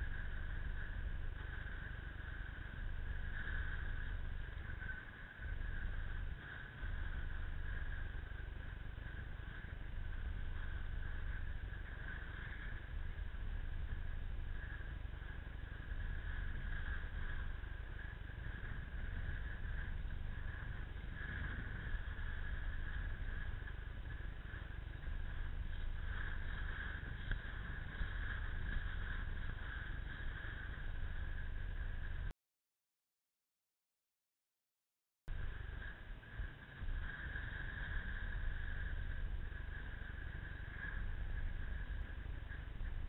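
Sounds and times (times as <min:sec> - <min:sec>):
wind buffeting microphone: 0:00.0 - 0:32.3, 0:35.3 - 0:43.0.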